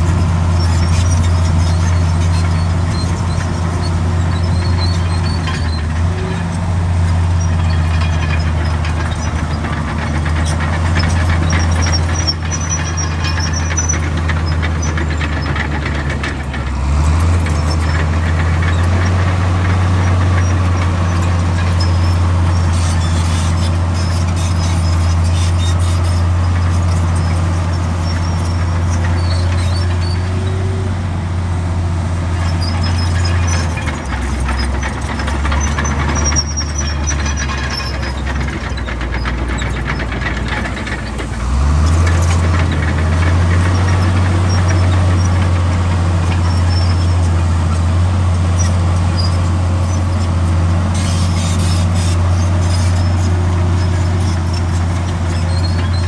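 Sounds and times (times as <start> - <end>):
faint high squeaks: 0.0 - 30.8, 32.3 - 41.0, 41.7 - 56.0
heavy diesel engine running: 0.0 - 56.0.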